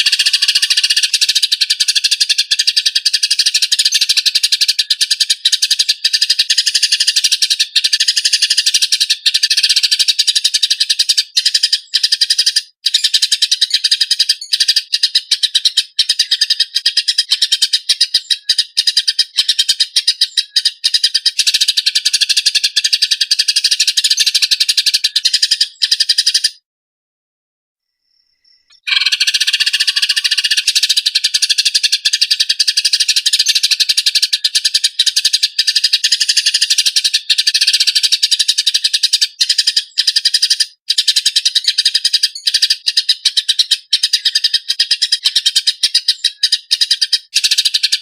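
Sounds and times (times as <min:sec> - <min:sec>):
sparrow harsh chattering: 0:00.0 - 0:26.6, 0:28.6 - 0:48.0.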